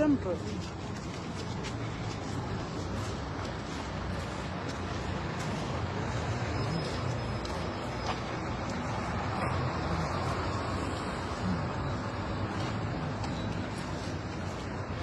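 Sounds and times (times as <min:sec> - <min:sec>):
diesel engine rumbling: 0:00.0 - 0:15.0
traffic noise: 0:00.0 - 0:15.0.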